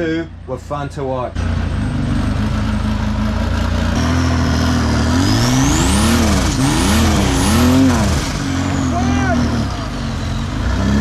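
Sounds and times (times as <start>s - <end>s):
buggy engine revving: 1.3s - 11.0s.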